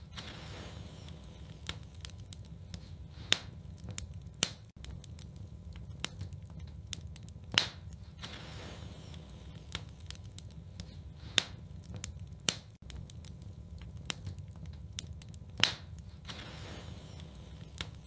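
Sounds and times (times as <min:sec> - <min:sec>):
loud pops from fire: 0:00.0 - 0:18.0
wood fire crackling: 0:00.0 - 0:18.0.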